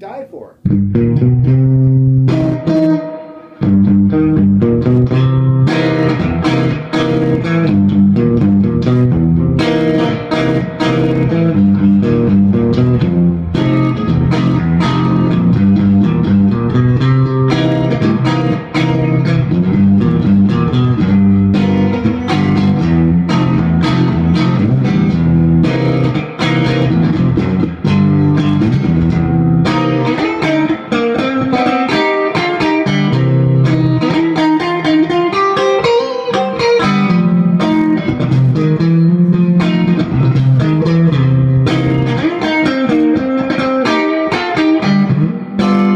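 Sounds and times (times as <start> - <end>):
electric guitar blues-rock run: 0.6 - 45.9.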